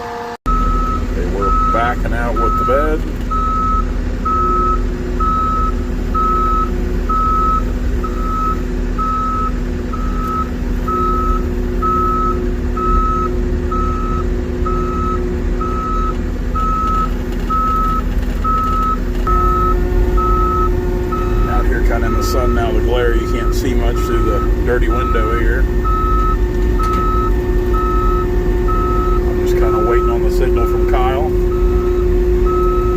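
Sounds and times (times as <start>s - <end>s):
diesel engine droning: 0.0s - 32.9s
truck reverse alarm beeping: 0.0s - 32.9s.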